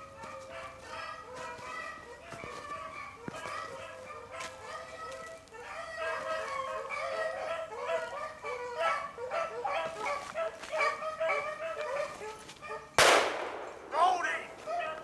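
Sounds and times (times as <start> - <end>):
pack of dogs baying: 0.0 - 13.0, 14.0 - 15.0.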